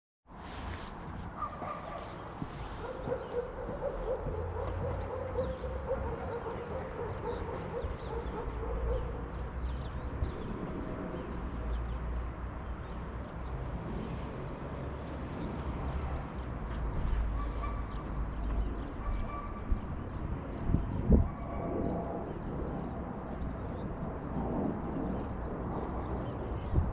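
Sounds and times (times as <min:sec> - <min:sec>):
small birds chirping: 0:00.3 - 0:26.9.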